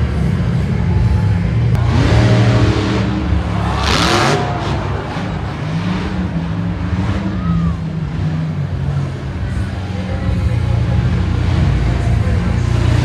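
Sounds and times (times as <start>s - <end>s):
monster truck engine running: 0.0s - 13.0s.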